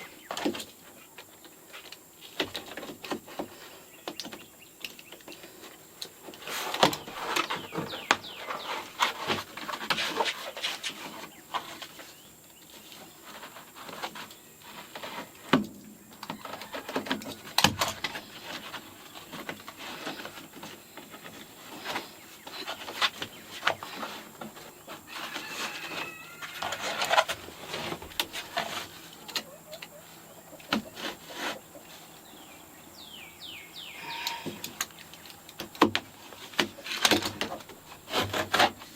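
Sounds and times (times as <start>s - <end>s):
chickens calling: 2.4s - 38.9s.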